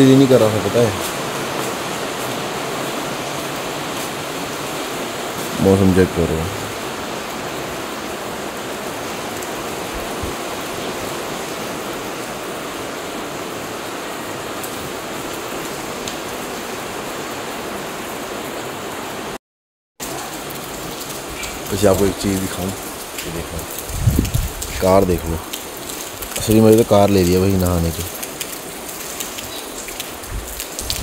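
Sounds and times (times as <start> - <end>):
heavy rain: 0.0 - 19.4, 20.0 - 31.0.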